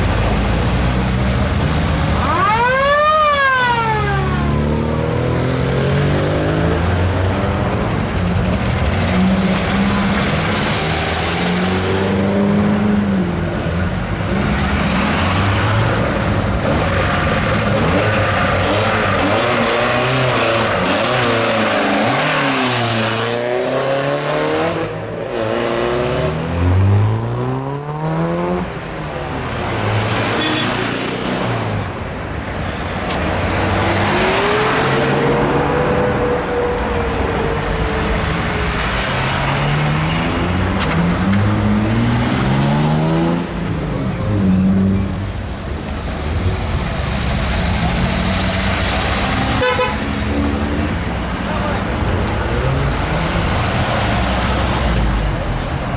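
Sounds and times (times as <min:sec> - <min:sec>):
tractors and cars driving past: 0:00.0 - 0:55.9.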